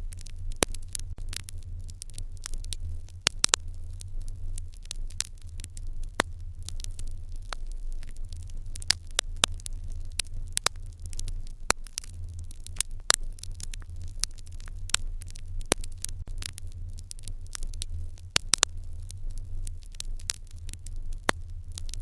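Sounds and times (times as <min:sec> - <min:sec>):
fire crackling and popping: 0:00.0 - 0:22.0
low rumble: 0:00.0 - 0:22.0.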